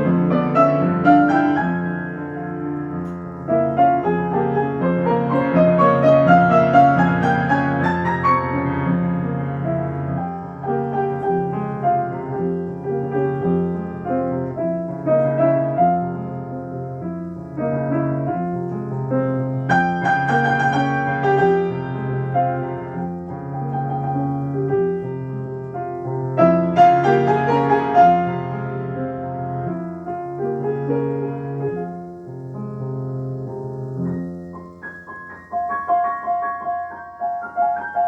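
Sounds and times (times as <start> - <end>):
solo classical piano: 0.0 - 38.0.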